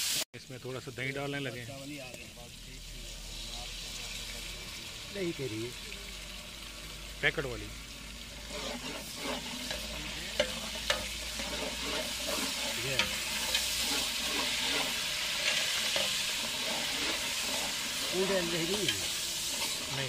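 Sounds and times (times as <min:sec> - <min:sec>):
spices sizzling in a pot: 0:00.0 - 0:20.0.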